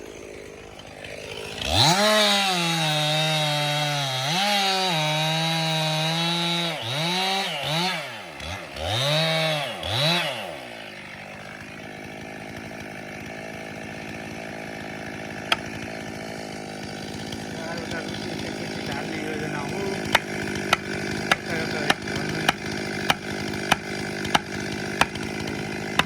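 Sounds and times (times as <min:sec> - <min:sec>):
chainsaw engine revving and idling: 0:00.0 - 0:26.0.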